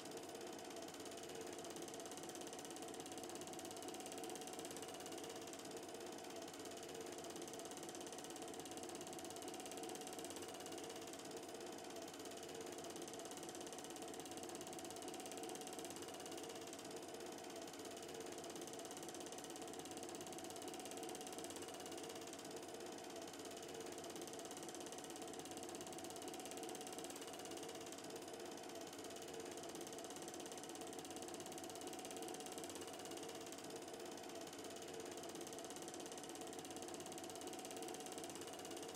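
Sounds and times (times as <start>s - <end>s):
film projector clattering: 0.0s - 38.9s.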